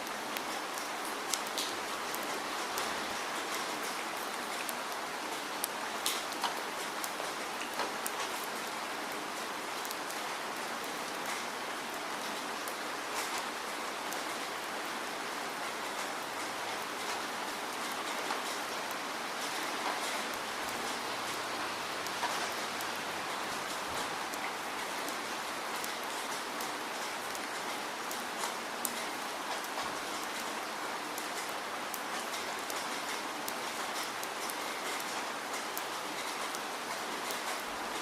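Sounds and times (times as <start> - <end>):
raindrops ticking on a surface: 0.0 - 38.0
steady rain hiss: 0.0 - 38.0.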